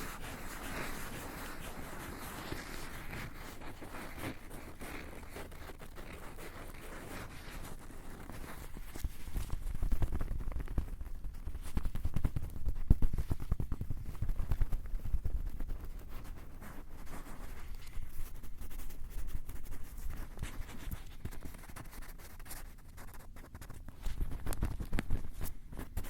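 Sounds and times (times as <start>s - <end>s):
scratchy rustling: 0.0s - 26.0s.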